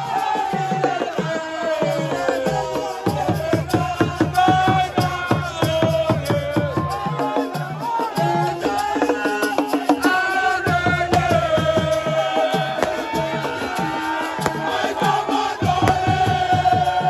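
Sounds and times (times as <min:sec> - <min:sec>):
hand drumming: 0:00.0 - 0:17.0
person singing: 0:00.0 - 0:17.0.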